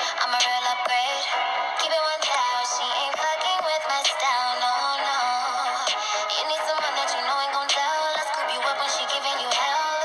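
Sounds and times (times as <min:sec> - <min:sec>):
song with processed vocals: 0:00.0 - 0:10.0.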